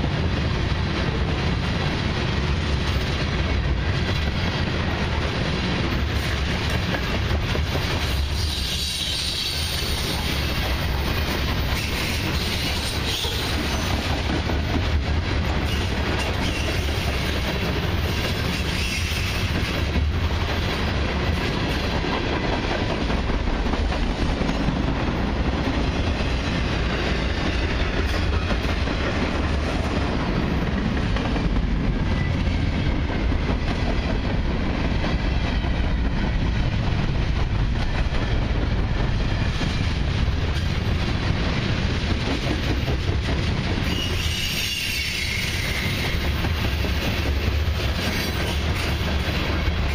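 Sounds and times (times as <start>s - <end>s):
freight train rolling past: 0.0s - 49.9s.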